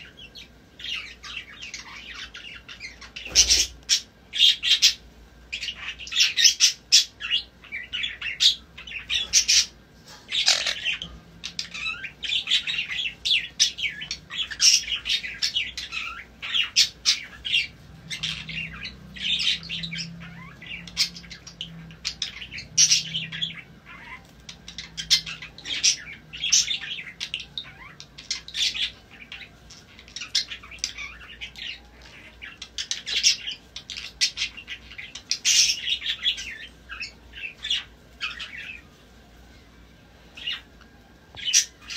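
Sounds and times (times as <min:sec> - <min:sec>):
parrots chirping and squawking: 0:00.0 - 0:41.9.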